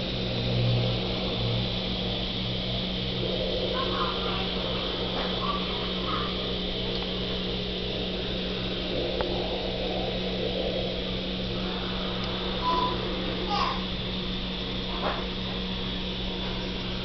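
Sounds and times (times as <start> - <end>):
low mechanical hum: 0.0 - 17.0
pulsing throb: 0.0 - 17.0.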